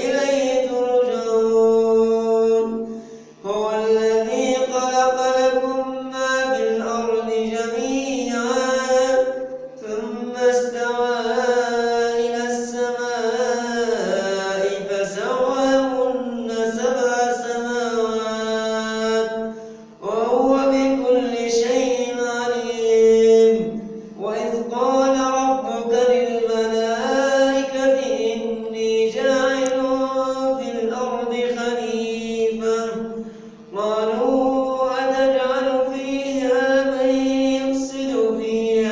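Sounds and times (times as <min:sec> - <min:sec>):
man chanting melodically: 0:00.0 - 0:38.9.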